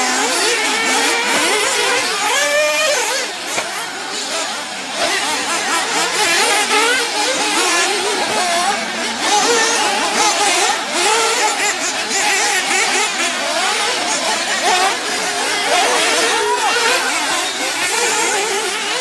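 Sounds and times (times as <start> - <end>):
nitro buggy engines revving: 0.0 - 19.0.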